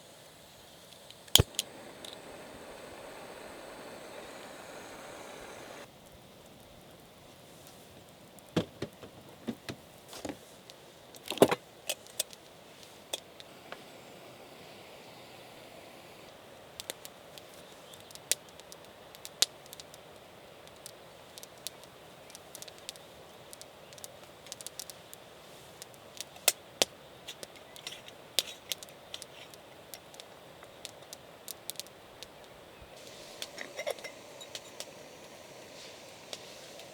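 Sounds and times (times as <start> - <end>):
faint steady hiss: 0.0 - 36.9.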